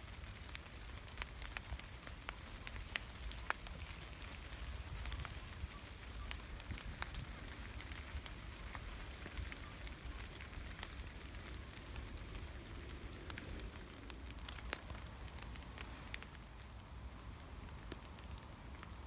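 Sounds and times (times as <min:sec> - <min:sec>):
gentle rain hiss: 0:00.0 - 0:19.0.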